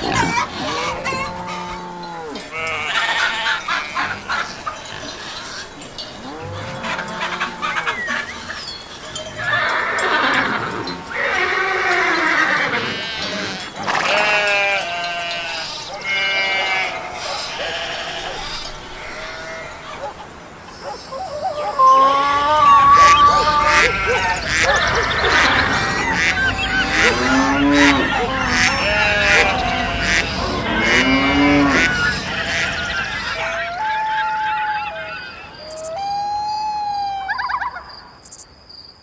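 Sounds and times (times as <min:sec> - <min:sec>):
farm animals bleating: 0:00.0 - 0:20.0, 0:20.7 - 0:35.5.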